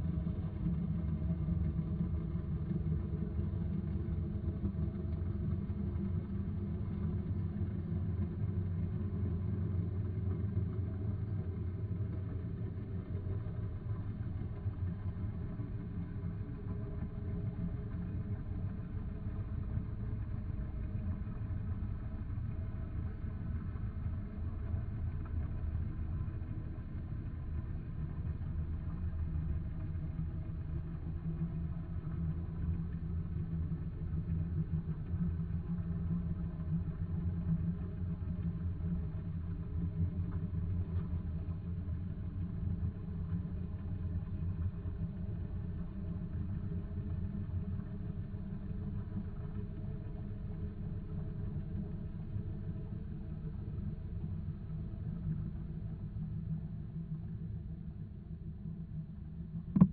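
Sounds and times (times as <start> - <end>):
underwater boat engine rumble: 0.2 - 59.9.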